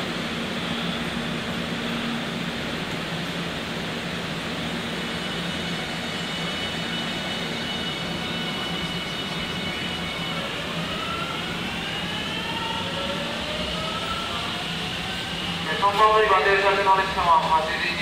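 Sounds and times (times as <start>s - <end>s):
electric train equipment hum: 0.0s - 18.0s
traction motors whining up: 0.0s - 18.0s.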